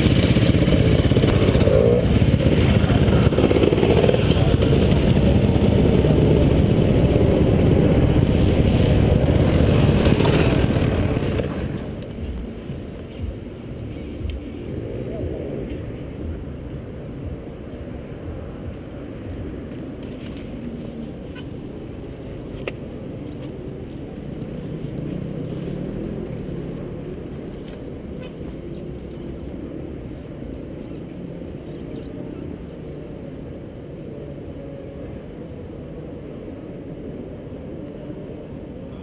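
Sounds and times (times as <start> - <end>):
muffled dirt bike engines: 0.0 - 39.0.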